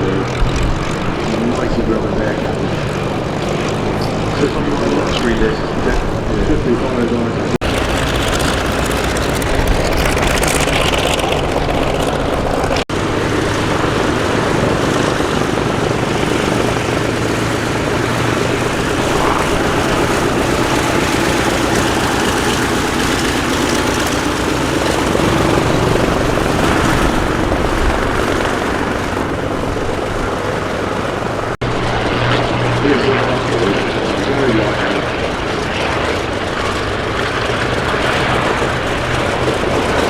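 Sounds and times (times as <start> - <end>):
radial aircraft engine running: 0.0 - 40.0.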